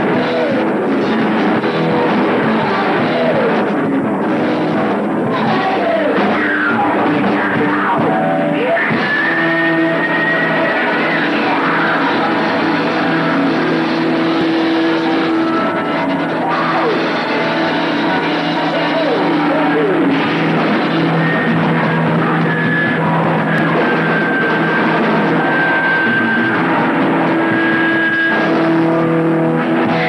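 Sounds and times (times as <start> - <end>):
distorted electric guitar: 0.0 - 30.0
drum kit: 0.0 - 30.0
lead guitar sliding in pitch: 0.0 - 30.0.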